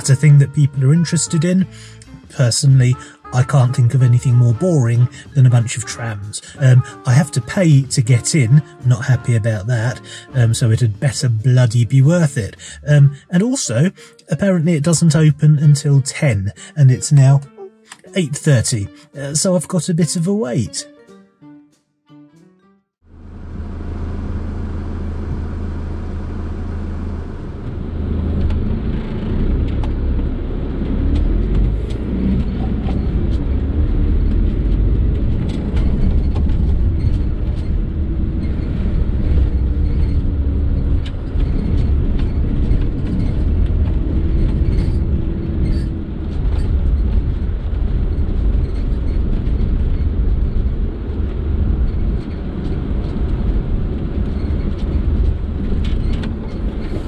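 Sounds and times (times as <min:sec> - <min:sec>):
van engine driving: 0:00.0 - 0:19.9, 0:23.1 - 0:57.0
road rumble: 0:00.0 - 0:20.9, 0:23.0 - 0:57.0.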